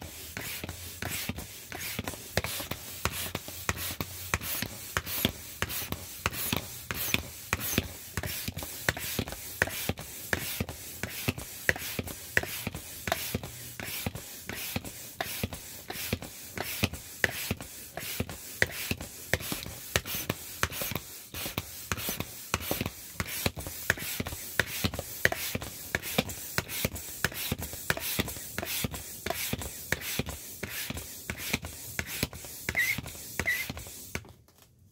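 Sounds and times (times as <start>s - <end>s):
manual air pump strokes: 0.0s - 34.3s.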